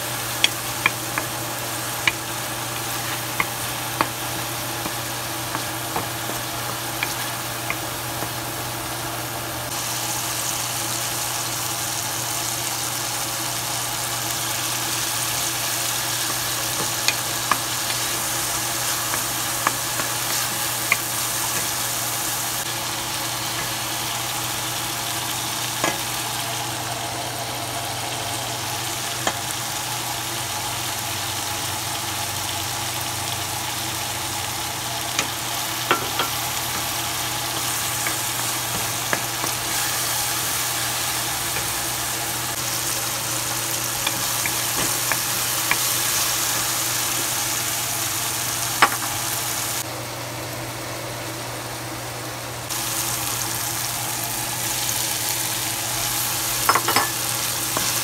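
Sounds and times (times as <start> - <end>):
vegetables sizzling in oil: 0.0 - 51.9, 52.7 - 58.0.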